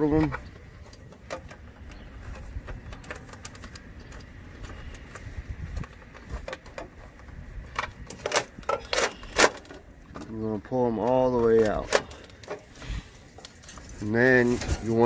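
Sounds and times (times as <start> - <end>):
low steady rumble: 0.0 - 15.0
wires clicking and rustling: 0.0 - 15.0.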